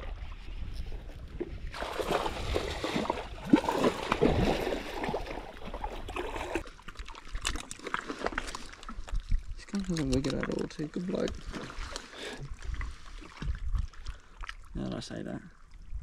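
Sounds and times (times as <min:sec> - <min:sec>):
fish thrashing and splashing: 0:01.7 - 0:14.7.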